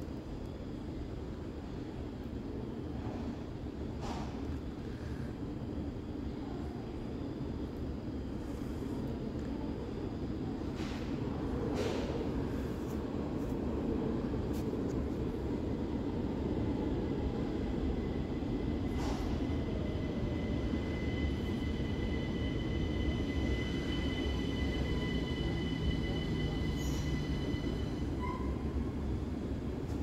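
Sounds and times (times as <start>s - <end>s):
electric train low rumble: 0.0s - 30.0s.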